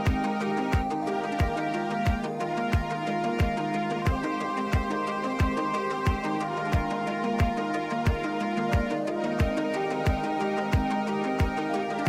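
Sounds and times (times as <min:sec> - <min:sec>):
layered synth tones: 0:00.0 - 0:12.0.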